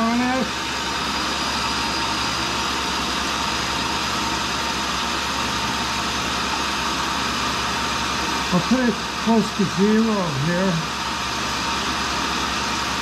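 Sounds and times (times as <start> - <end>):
grinder machine hum and whine: 0.0 - 13.0.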